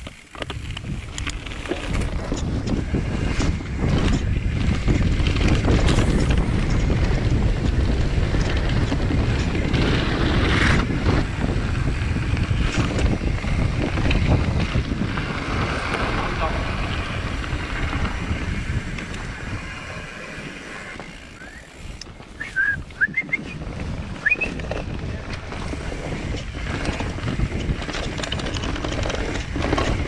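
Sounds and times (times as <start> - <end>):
bike rattling over bumps: 0.0 - 30.0
wind buffeting microphone: 0.0 - 30.0.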